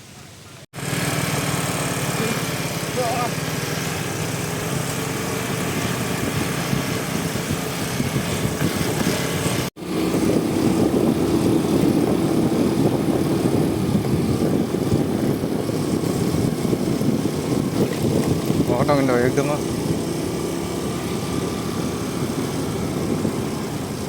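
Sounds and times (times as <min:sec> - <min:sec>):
scooter engine running: 0:00.3 - 0:24.0.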